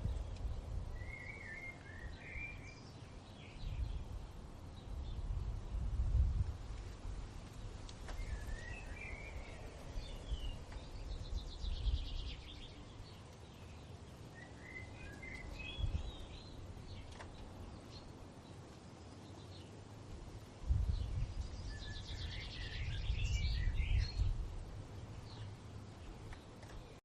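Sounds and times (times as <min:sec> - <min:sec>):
low rumble of wind: 0:00.0 - 0:27.0
songbirds singing: 0:00.0 - 0:27.0.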